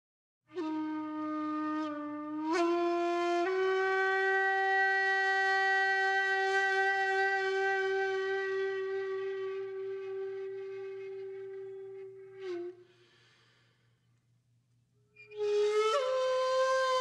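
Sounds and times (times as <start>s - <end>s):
wind instrument melody: 0.5s - 12.8s, 15.2s - 17.0s.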